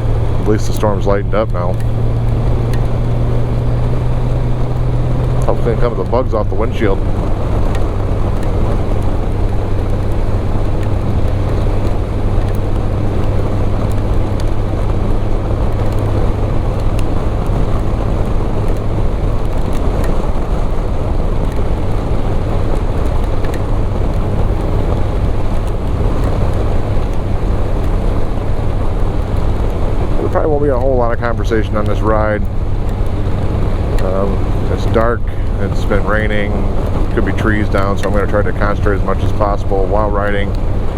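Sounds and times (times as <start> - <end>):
motorcycle engine hum: 0.0 - 40.9
wind rushing on microphone: 0.0 - 40.9.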